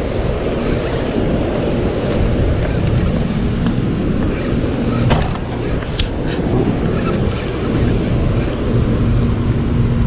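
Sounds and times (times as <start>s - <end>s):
turbulent water rushing: 0.0s - 10.0s
wind buffeting microphone: 0.0s - 10.0s.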